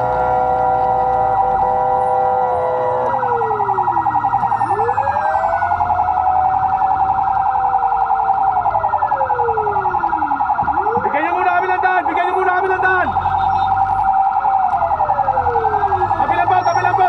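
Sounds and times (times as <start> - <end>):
fire truck siren yelp: 0.0 - 17.0
wailing siren: 0.0 - 17.0.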